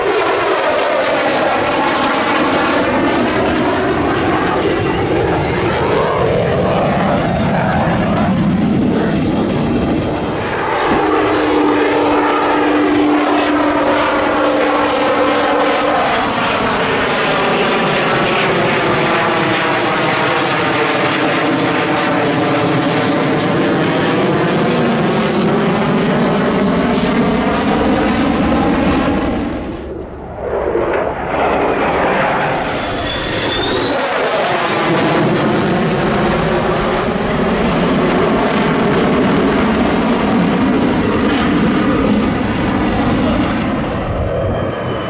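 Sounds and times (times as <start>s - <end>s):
jet aircraft flying past: 0.0s - 45.0s.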